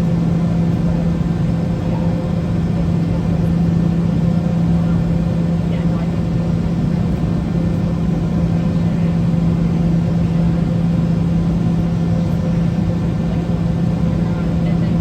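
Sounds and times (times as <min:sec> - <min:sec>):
aircraft cabin engine hum: 0:00.0 - 0:15.0.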